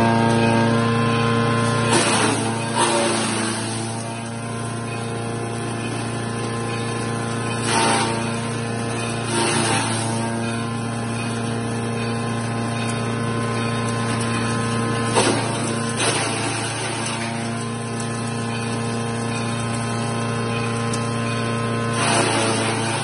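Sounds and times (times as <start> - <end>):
chipper shredder motor running: 0.0 - 23.0.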